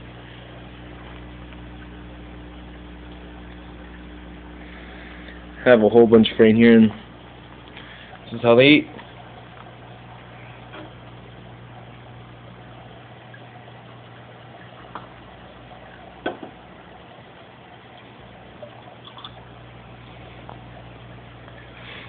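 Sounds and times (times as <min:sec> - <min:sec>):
air pump humming: 0:00.0 - 0:22.0
air stone bubbling: 0:00.0 - 0:22.0.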